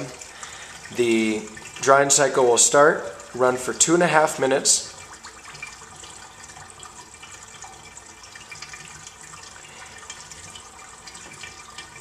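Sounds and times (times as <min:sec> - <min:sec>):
water draining from bathtub: 0:00.0 - 0:12.0.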